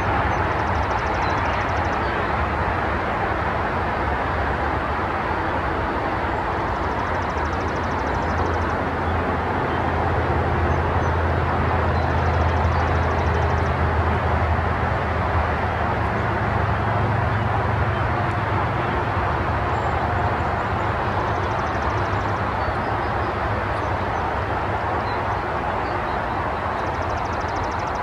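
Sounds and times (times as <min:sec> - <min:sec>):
distant engine rumble: 0:00.0 - 0:28.0.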